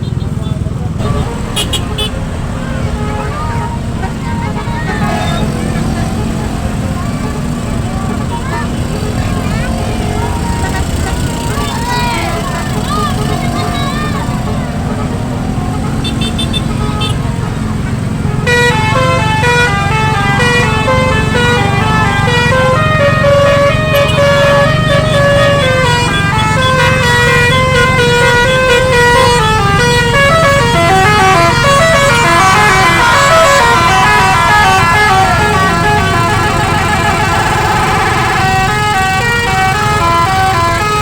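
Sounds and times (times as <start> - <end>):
low engine rumble: 0.0 - 40.9
multi-tone vehicle horn melody: 0.0 - 41.0.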